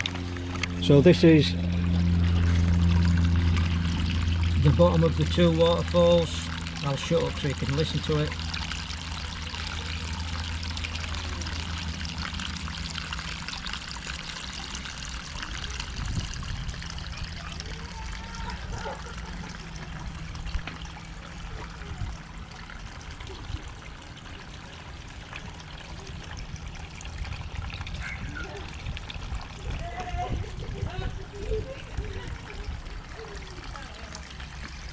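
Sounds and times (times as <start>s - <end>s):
water pouring over stone: 0.0s - 34.9s.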